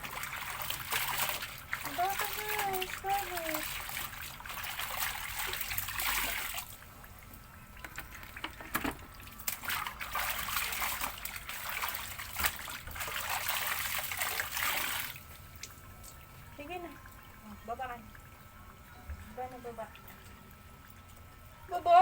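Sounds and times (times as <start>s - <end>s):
water sloshing in a basin: 0.0s - 22.0s.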